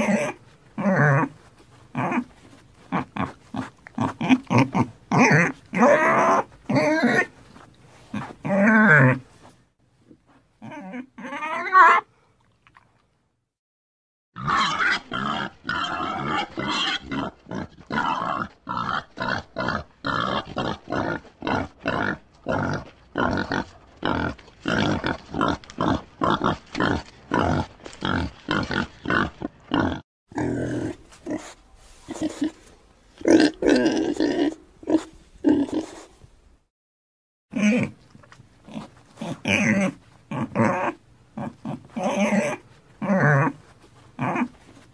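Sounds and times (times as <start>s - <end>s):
pigs grunting and squealing: 0.0s - 7.4s, 8.1s - 9.3s, 10.6s - 12.1s, 14.4s - 32.6s, 33.2s - 36.1s, 37.5s - 38.0s, 38.6s - 43.6s, 44.2s - 44.6s.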